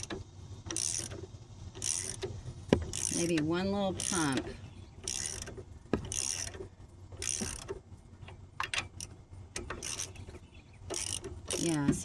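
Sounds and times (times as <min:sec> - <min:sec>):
metallic ratcheting strokes: 0:00.0 - 0:07.8, 0:08.7 - 0:12.0.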